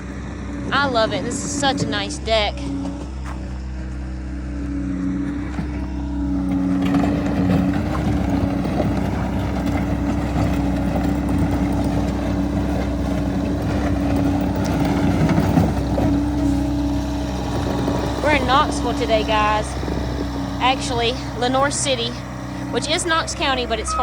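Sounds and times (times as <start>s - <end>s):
skid steer diesel engine: 0.0s - 24.0s.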